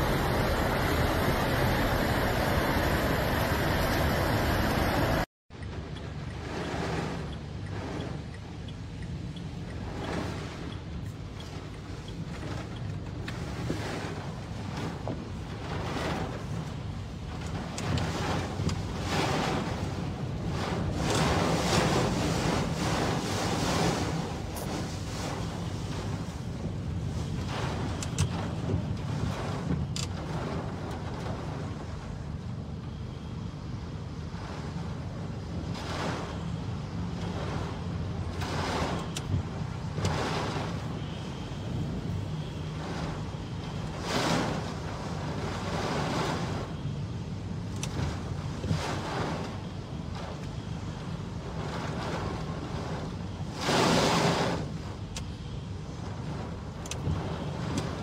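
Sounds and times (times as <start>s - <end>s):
tyres rumbling on wet road: 0.0s - 58.0s
water spray swishes from passing cars: 6.2s - 32.5s, 33.3s - 58.0s.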